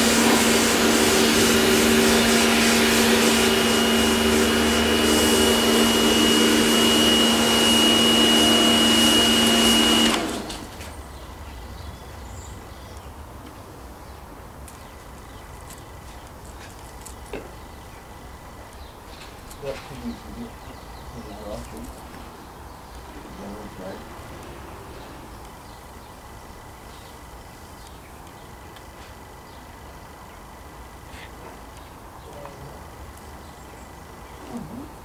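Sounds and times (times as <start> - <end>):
machine motor humming whine: 0.0 - 11.5, 14.8 - 35.0.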